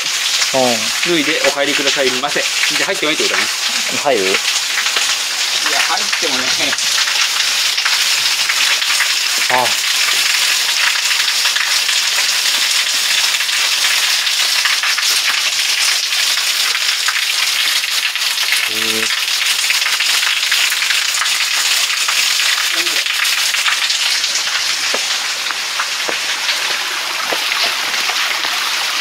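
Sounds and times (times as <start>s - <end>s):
small waterfall splashing on rocks: 0.0s - 29.0s.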